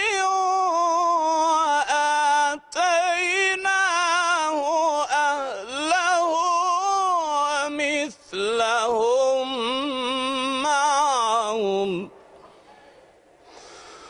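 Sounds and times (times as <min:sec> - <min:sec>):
man reciting melodically: 0:00.0 - 0:12.1.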